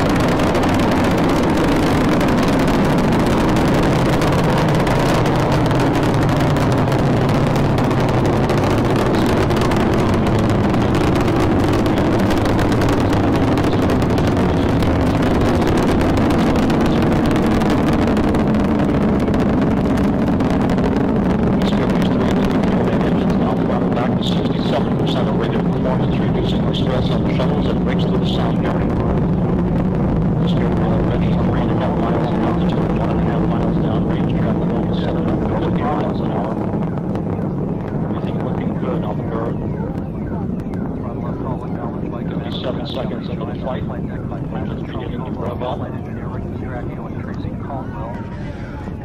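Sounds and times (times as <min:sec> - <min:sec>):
rocket engines rumbling: 0:00.0 - 0:49.0.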